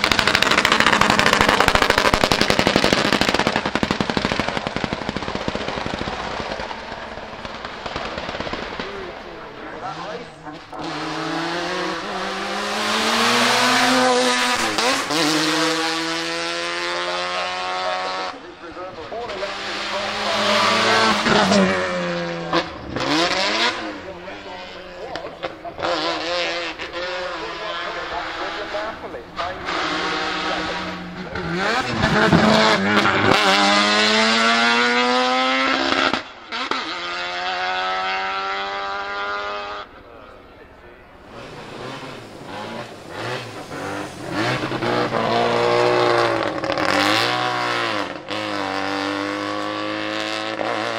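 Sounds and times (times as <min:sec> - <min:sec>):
race car engine accelerating past: 0:08.7 - 0:40.0, 0:41.2 - 0:50.9.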